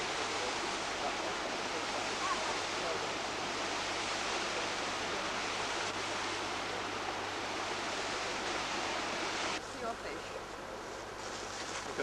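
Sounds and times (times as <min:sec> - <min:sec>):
stream rushing over rocks: 0:00.0 - 0:09.9.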